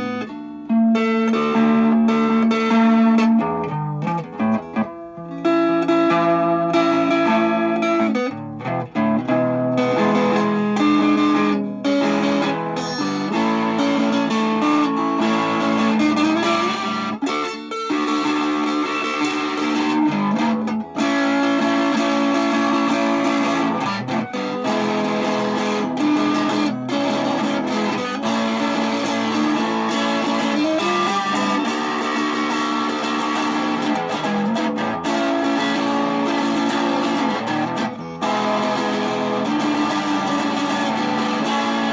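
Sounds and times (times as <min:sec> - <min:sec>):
plucked guitar: 0:00.0 - 0:41.9.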